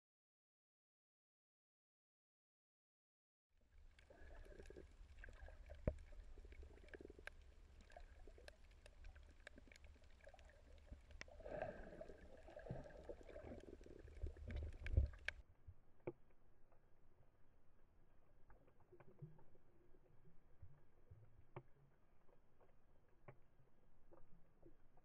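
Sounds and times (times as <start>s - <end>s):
sharp underwater clicks and crackles: 3.7s - 25.0s
underwater rumble of moving water: 3.7s - 25.0s.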